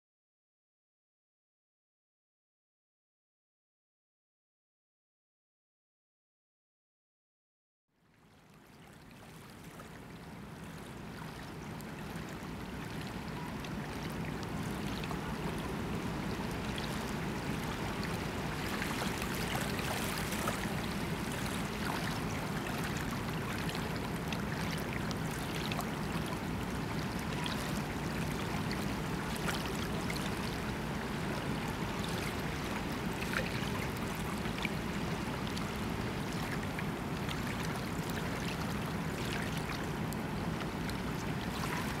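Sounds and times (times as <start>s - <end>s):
river water lapping on shore: 8.2s - 42.0s.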